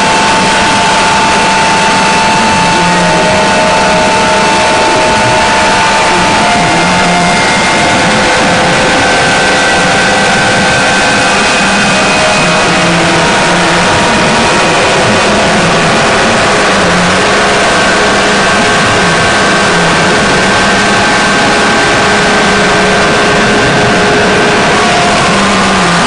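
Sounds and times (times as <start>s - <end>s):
harsh noise drone music: 0.0s - 26.0s.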